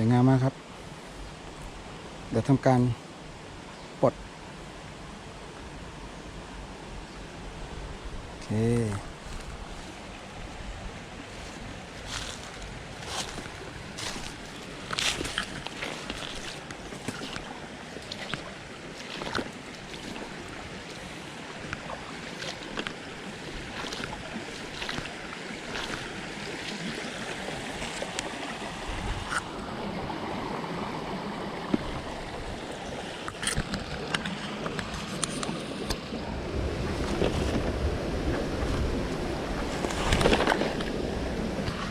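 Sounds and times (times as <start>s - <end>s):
water rushing over rocks: 8.2s - 41.9s.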